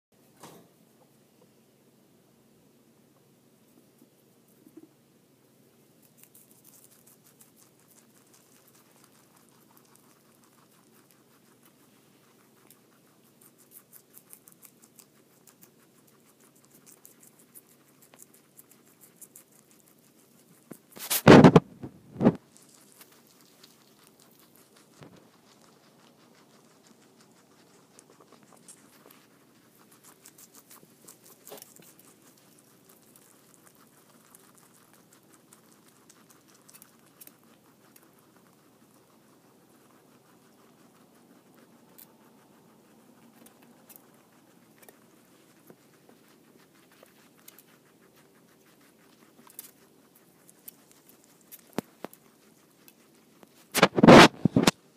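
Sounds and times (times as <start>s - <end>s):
guinea pigs chewing crunchily: 2.9s - 54.9s.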